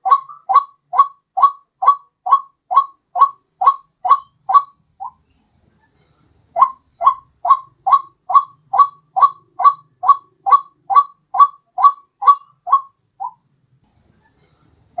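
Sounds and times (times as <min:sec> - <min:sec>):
waterhen calling: 0:00.0 - 0:05.2, 0:06.6 - 0:13.4.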